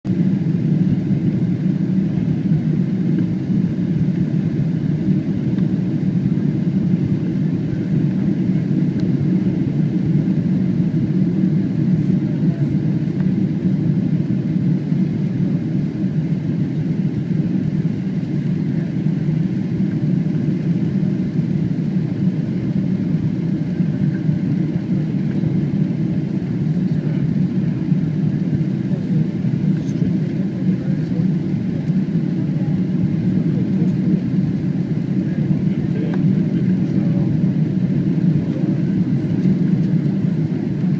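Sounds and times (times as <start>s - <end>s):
jet engines droning: 0.1s - 40.9s.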